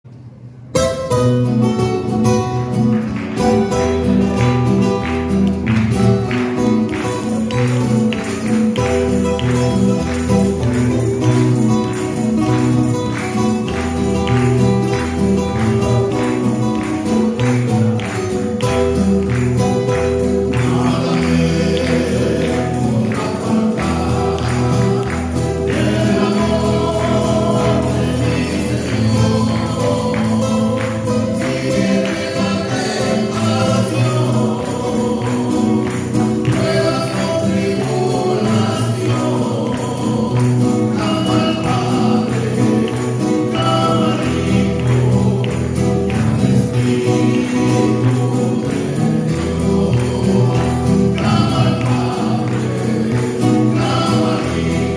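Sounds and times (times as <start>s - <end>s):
percussion beat: 0.8s - 54.9s
vocal trio singing in harmony: 4.0s - 54.9s.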